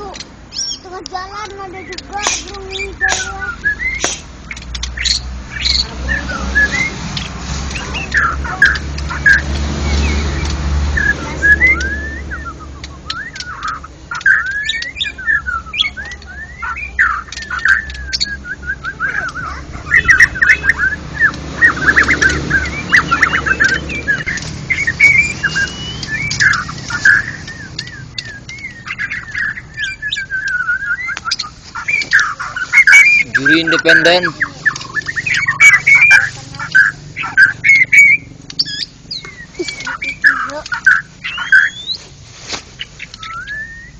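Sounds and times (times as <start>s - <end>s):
birds singing whistles and chirps: 0.0s - 43.9s.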